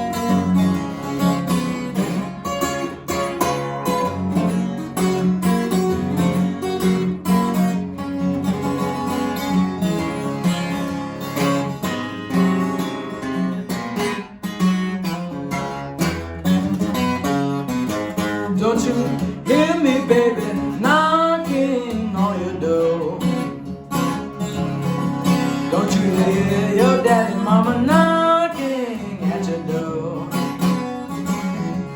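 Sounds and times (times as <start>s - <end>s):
acoustic guitar blues: 0.0s - 31.9s.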